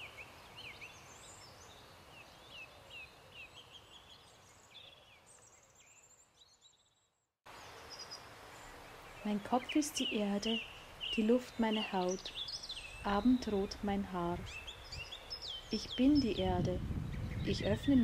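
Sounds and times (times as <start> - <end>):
steady outdoor hiss: 0.0 - 6.8, 7.5 - 18.0
birds chirping: 0.0 - 18.0.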